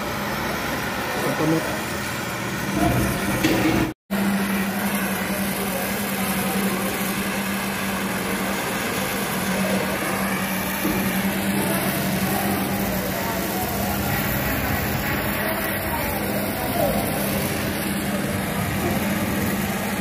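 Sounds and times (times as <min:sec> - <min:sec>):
low machine hum: 0:00.0 - 0:20.0
torch flame hissing: 0:00.0 - 0:20.0.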